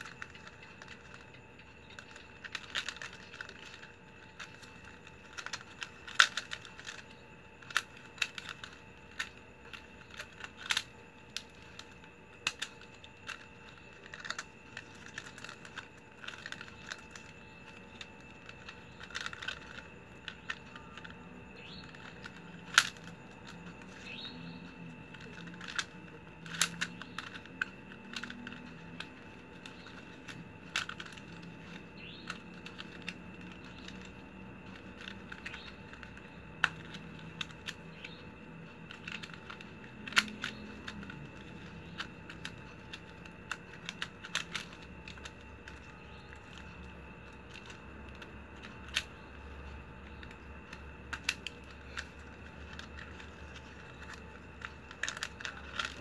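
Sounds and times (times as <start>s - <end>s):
plastic strips clicking and crinkling: 0.0s - 56.0s.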